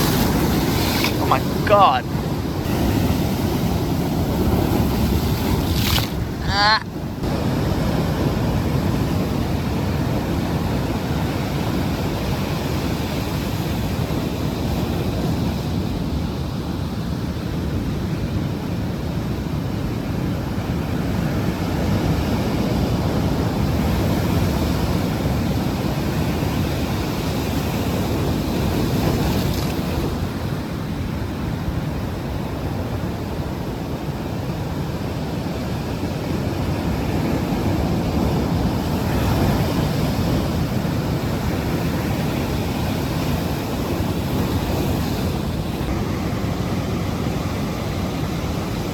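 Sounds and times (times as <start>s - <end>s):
ocean surf breaking: 0.0s - 48.9s.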